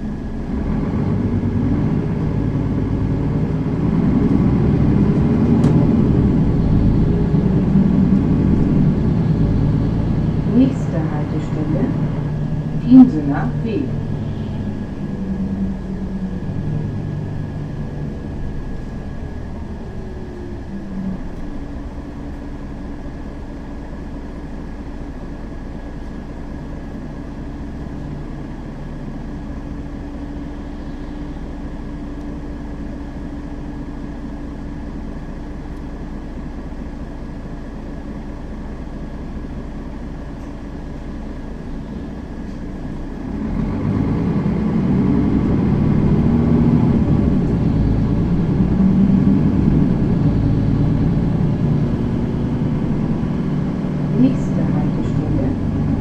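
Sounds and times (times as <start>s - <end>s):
bus engine: 0.0s - 56.0s
road rumble: 0.0s - 56.0s.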